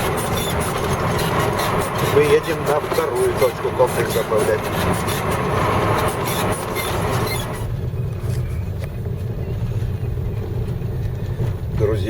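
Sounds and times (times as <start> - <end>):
low engine drone: 0.0 - 12.0
road noise hiss and rattle: 0.0 - 12.0.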